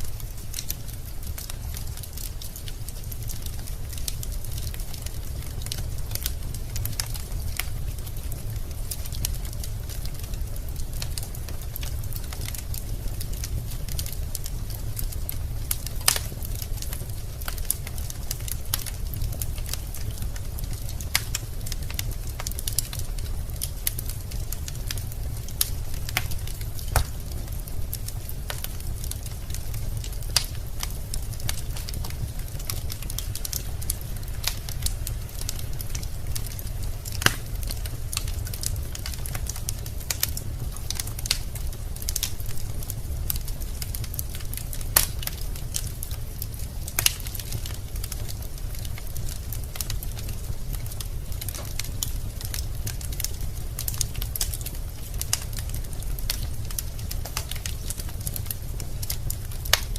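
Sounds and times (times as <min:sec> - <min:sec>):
wood fire crackling: 0:00.0 - 0:59.9
loud fire pops: 0:00.1 - 0:59.9.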